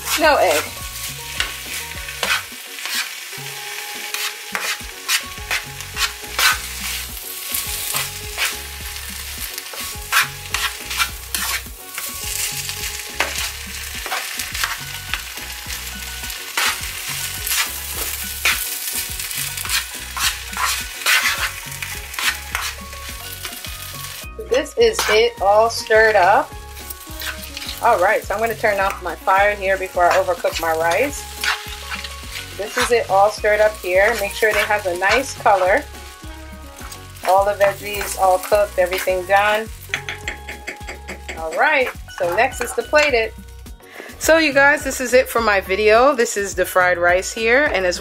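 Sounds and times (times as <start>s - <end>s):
spatula scraping a pan: 0.0s - 3.2s, 4.0s - 43.3s
rice sizzling in a frying pan: 0.0s - 40.8s, 41.4s - 43.6s.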